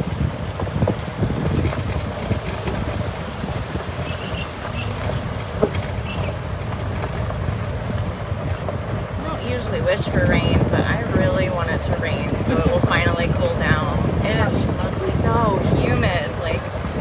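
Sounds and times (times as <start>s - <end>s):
tyres crackling on gravel: 0.0s - 17.0s
vehicle rolling on gravel road: 0.0s - 17.0s
wind buffeting microphone: 0.0s - 17.0s.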